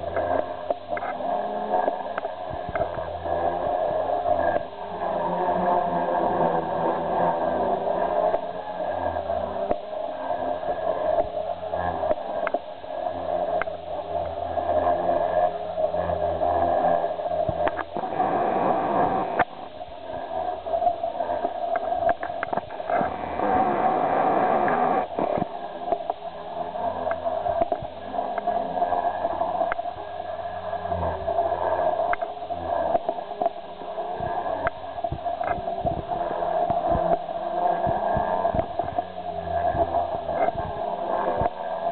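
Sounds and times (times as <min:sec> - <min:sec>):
rc helicopter rotor drone: 0:00.0 - 0:41.9.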